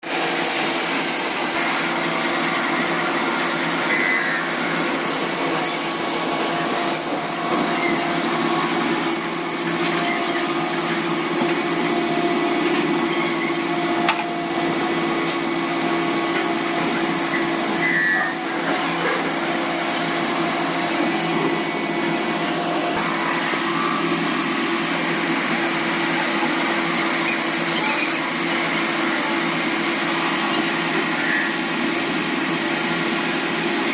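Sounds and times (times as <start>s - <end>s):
machinery whirring: 0.1s - 33.9s.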